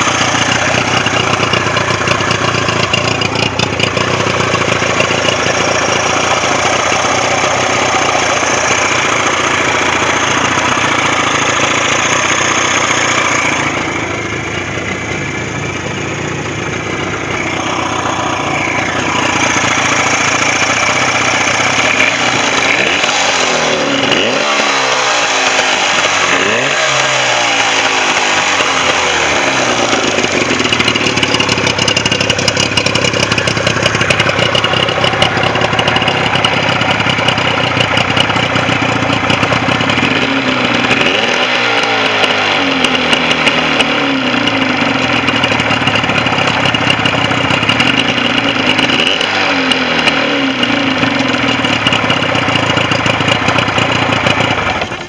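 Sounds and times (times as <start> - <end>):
outboard motor running and revving: 0.0 - 55.0.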